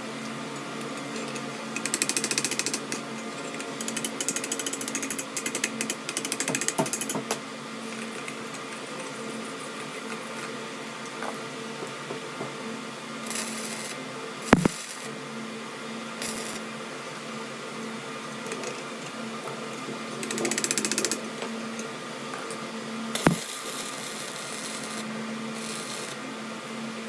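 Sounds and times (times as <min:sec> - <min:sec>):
workshop machine humming: 0:00.0 - 0:27.0.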